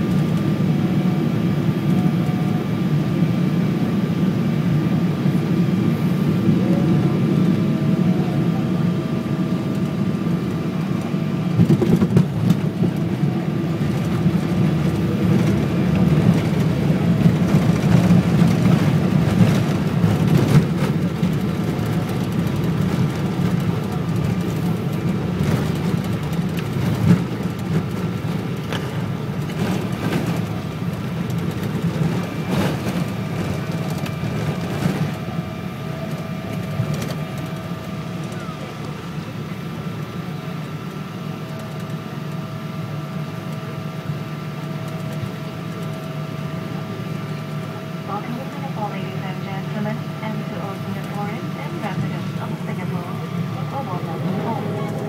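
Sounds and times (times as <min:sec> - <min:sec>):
faint steady whine: 0:00.0 - 0:55.0
low cabin rumble: 0:00.0 - 0:55.0.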